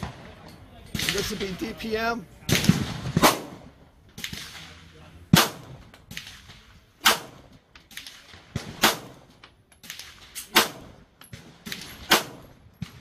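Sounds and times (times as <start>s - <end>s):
pistol shots with echo: 2.5s - 13.0s.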